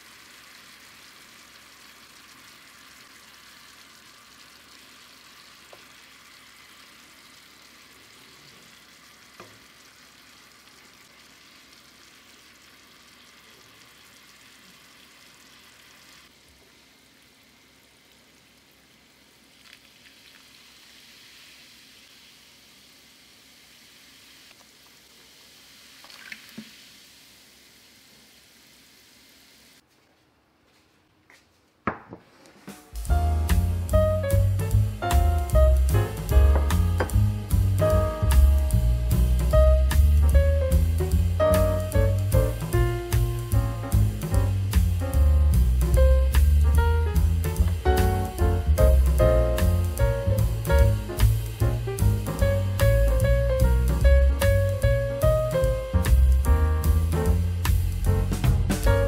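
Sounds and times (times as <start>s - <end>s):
meat sizzling in a frying pan: 0.0s - 29.8s, 33.0s - 59.0s.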